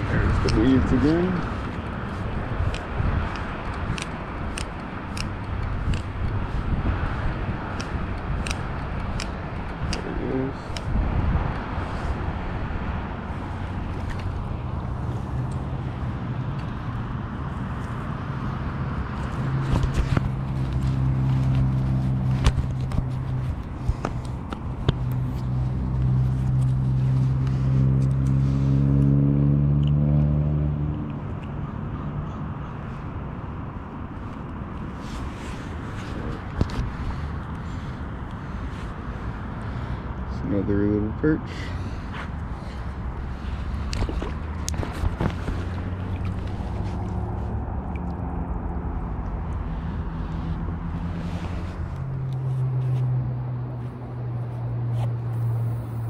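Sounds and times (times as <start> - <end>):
distant road traffic: 0.0 - 56.0.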